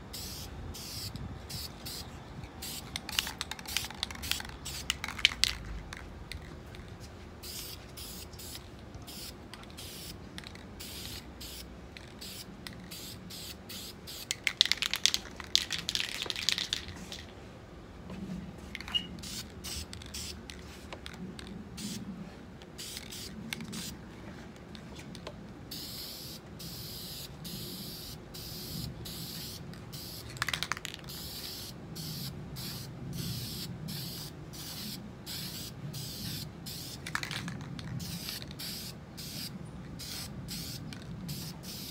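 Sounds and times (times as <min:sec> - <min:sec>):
spray paint can hissing: 0:00.1 - 0:05.6, 0:07.4 - 0:17.2, 0:18.8 - 0:20.4, 0:21.8 - 0:22.0, 0:22.8 - 0:23.9, 0:25.7 - 0:41.9
spray can rattling when shaken: 0:02.6 - 0:17.3, 0:18.7 - 0:22.0, 0:22.8 - 0:24.0, 0:25.7 - 0:41.9.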